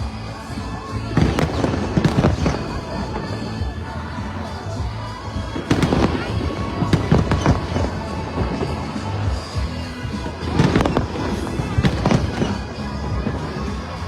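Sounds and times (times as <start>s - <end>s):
fireworks bursting: 0.0s - 14.0s
music with low bass notes: 0.0s - 14.0s.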